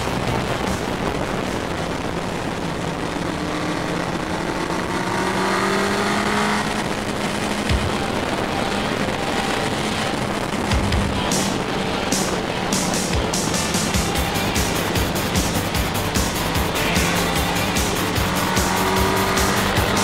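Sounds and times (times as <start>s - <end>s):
motorcycle engine accelerating: 0.0s - 20.0s
wind rush: 0.0s - 20.0s.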